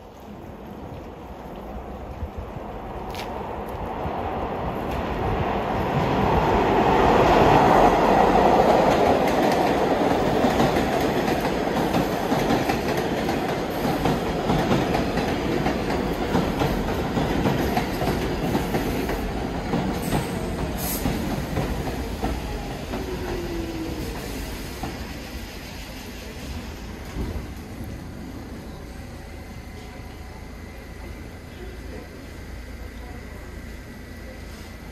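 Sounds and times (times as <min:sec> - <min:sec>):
subway train wheels clicking: 0:00.0 - 0:34.9.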